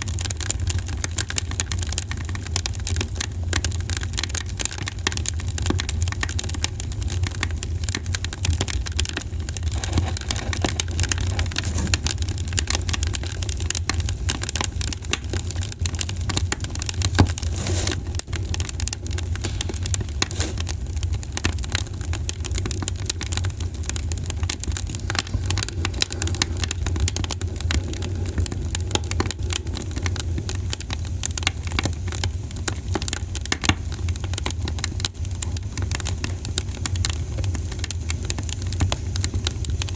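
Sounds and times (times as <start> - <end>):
campfire crackling: 0.0 - 39.9
low fire rumble: 0.0 - 39.9.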